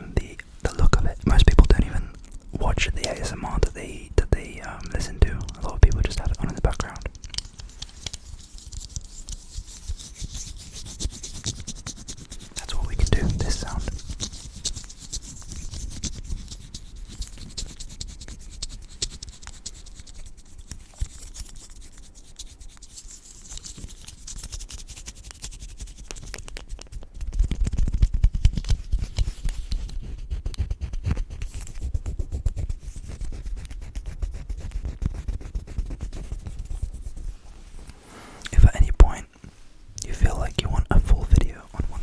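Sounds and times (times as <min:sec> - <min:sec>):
rubbing and scratching on microphone: 0:00.0 - 0:42.0.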